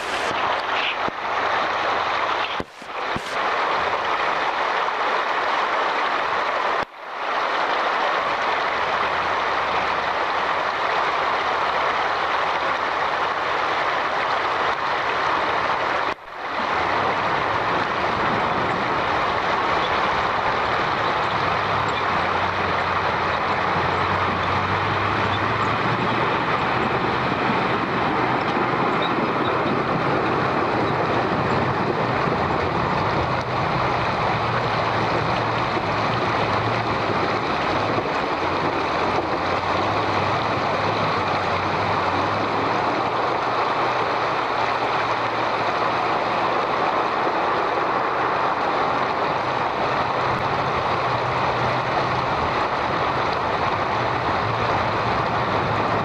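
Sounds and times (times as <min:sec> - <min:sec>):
heavy truck running: 0:00.0 - 0:56.0.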